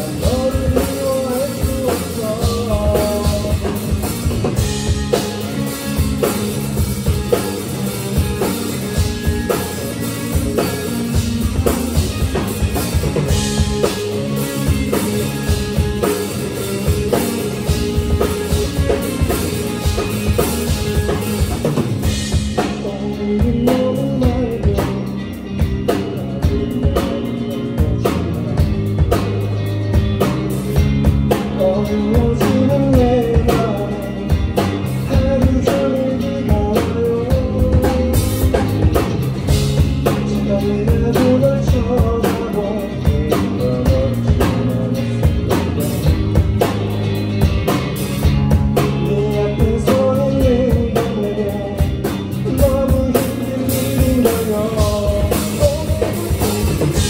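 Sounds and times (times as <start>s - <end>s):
bass guitar: 0.0s - 57.0s
electric guitar: 0.0s - 57.0s
steady drum beat: 0.0s - 57.0s.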